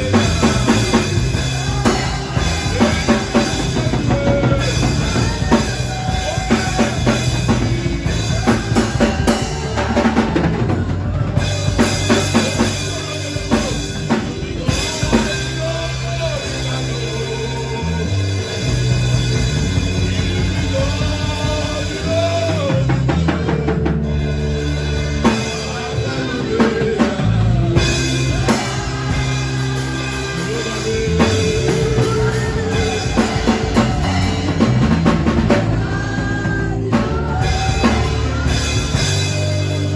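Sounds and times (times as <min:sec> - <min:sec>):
sustained chords: 0:00.0 - 0:20.8, 0:22.9 - 0:39.9
bass line: 0:00.0 - 0:39.9
drum kit beat: 0:00.0 - 0:39.9.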